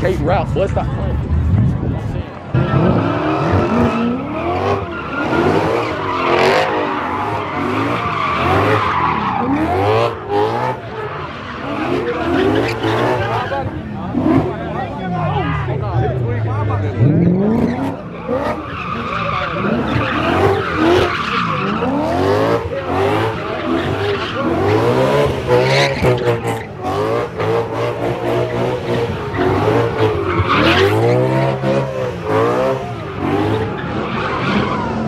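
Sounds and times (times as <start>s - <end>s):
tires screeching on pavement: 0.0s - 35.0s
car engine revving: 1.0s - 35.0s.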